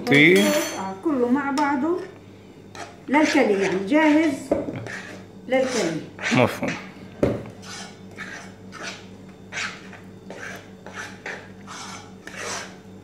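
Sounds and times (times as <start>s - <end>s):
batter stirred in saucepan: 1.8s - 13.0s.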